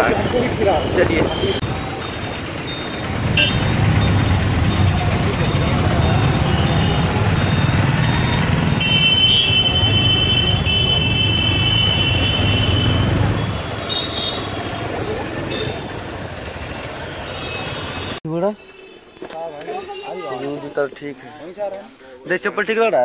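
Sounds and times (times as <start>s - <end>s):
traffic rumble of engines and road: 0.0s - 23.0s.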